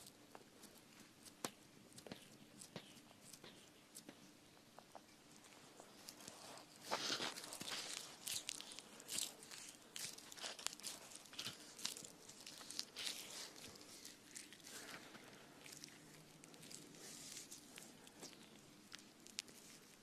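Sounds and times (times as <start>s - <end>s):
close crunching and crackling: 0.0s - 20.0s.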